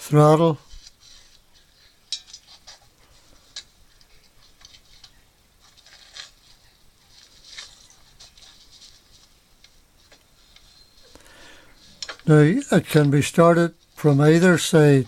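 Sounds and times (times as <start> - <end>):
scraping rustles: 0.1 - 15.0.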